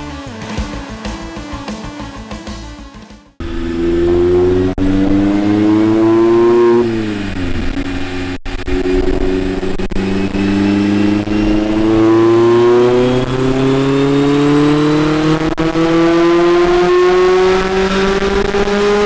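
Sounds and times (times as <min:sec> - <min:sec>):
car engine revving: 0:03.4 - 0:19.0.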